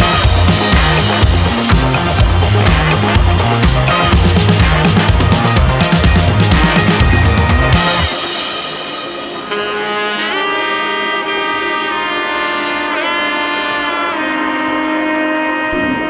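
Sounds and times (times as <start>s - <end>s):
saxophone-like horn long notes: 0.0s - 16.0s.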